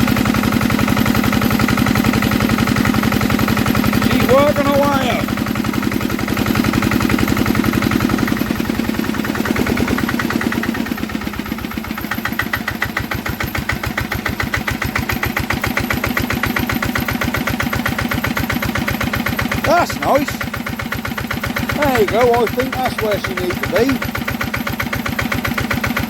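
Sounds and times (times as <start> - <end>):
stationary diesel engine running: 0.0 - 26.0.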